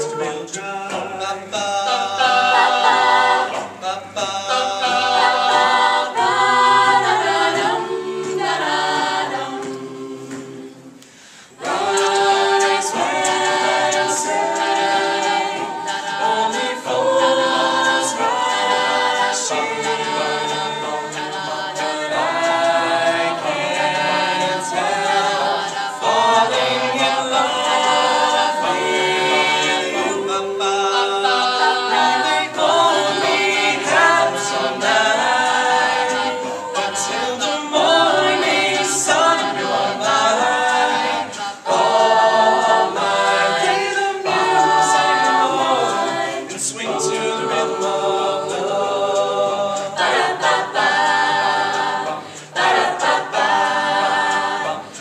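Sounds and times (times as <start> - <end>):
a cappella group singing: 0.0 - 55.0.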